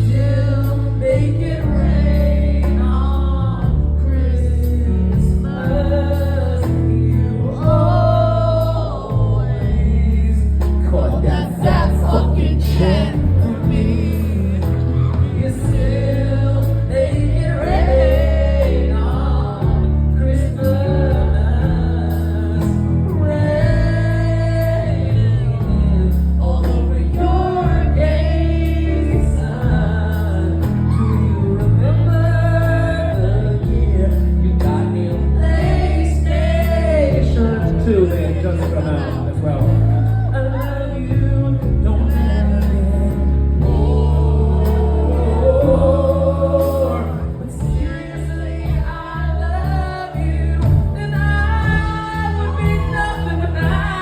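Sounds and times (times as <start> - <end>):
heavy bass line: 0.0 - 54.0
live pop band: 0.0 - 54.0
person singing: 0.0 - 54.0.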